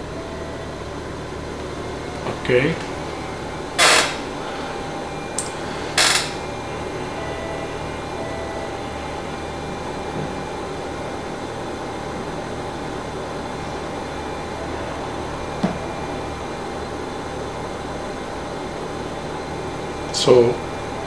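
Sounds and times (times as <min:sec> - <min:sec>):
faint steady tones: 0:00.0 - 0:21.0
ventilator humming: 0:00.0 - 0:21.0.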